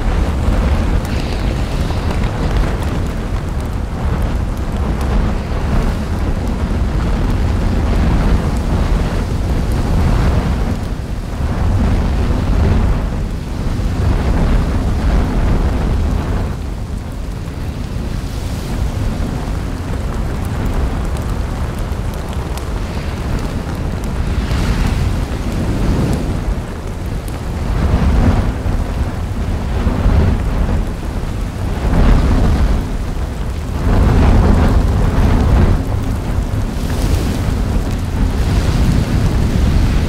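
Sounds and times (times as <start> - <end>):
lava vent rumbling roar: 0.0 - 40.0.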